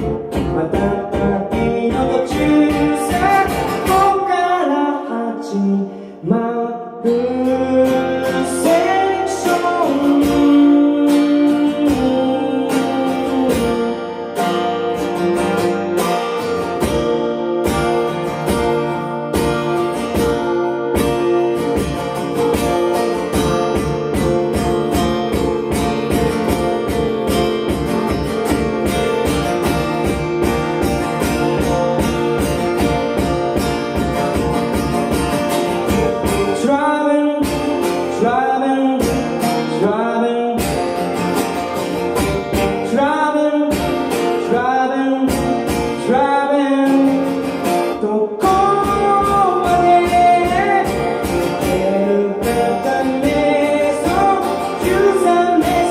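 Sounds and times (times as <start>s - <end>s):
strummed acoustic guitar: 0.0s - 55.9s.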